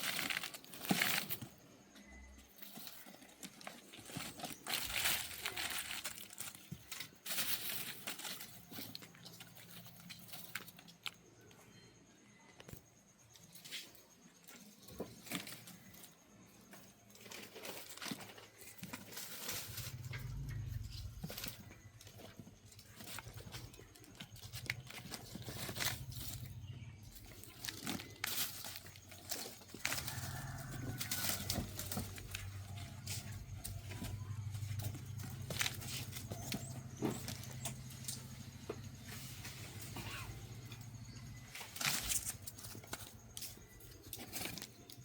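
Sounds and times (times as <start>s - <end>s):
dry leaf rustling and crinkling: 0.0s - 1.6s, 2.5s - 11.2s, 17.1s - 45.0s.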